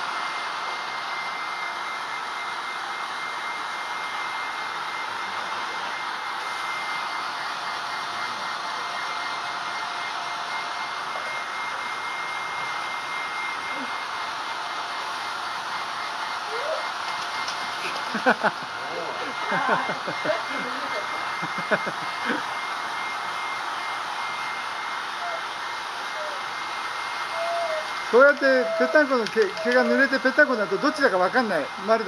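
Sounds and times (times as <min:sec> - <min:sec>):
pet blower dryer whining: 0:00.0 - 0:32.0.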